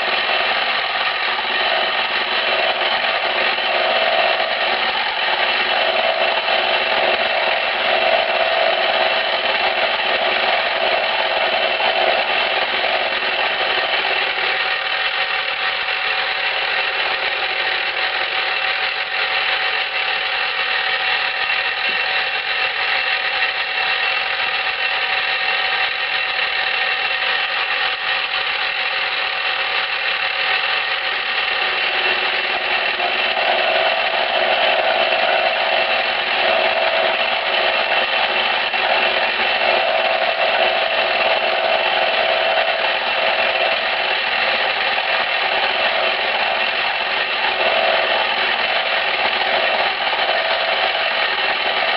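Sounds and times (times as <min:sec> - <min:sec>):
milling machine cutting steel: 0:00.0 - 0:51.9.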